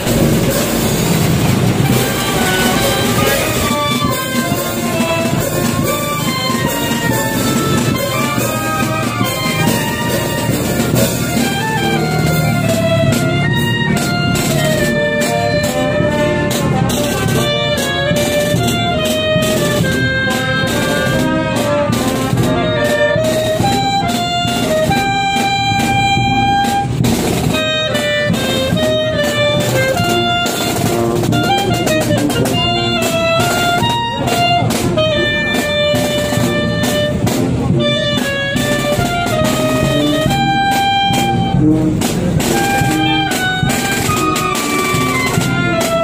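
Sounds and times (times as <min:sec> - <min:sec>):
brass melody: 0:00.0 - 0:46.0
drums: 0:00.0 - 0:46.0.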